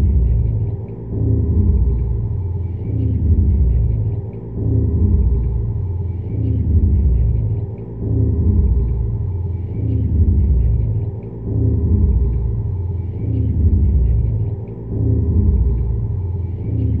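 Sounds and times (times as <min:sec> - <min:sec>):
deep low rumbling drone: 0:00.0 - 0:17.0.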